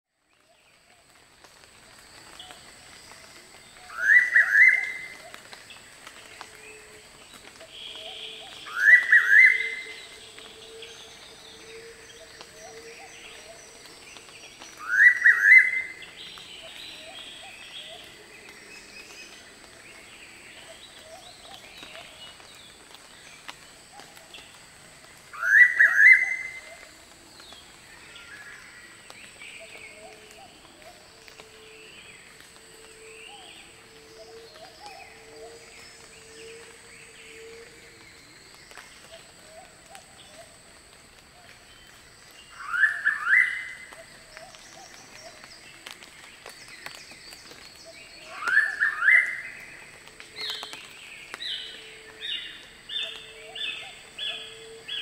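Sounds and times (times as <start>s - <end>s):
faint rainforest calls: 0.1s - 55.0s.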